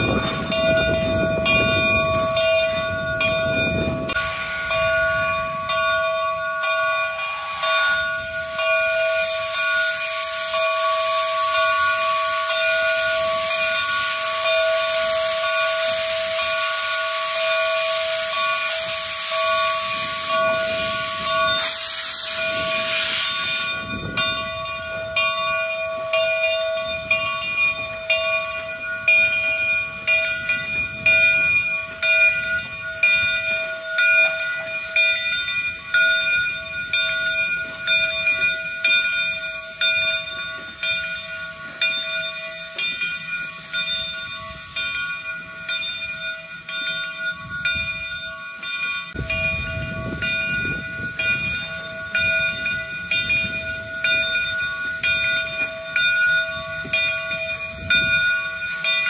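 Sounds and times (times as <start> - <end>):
rail cars clicking and rumbling: 0.0 - 59.0
steam hissing: 0.0 - 59.0.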